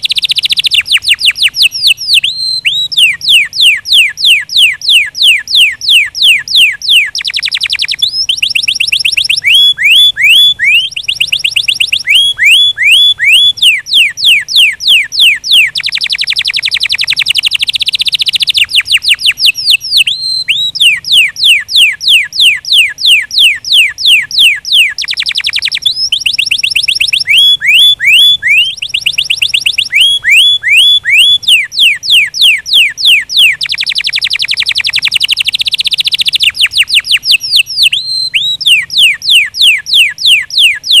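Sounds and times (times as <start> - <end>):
canary singing: 0.0 - 41.0.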